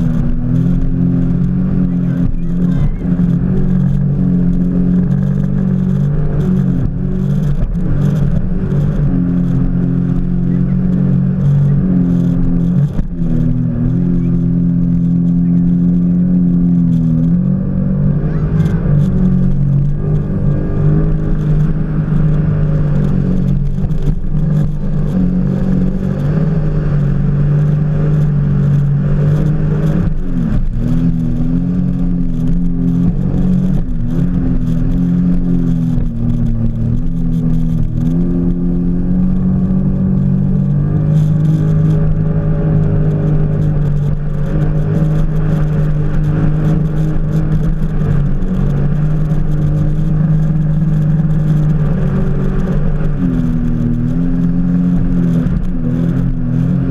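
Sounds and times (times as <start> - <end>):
jet ski engine revving: 0.0 - 56.9.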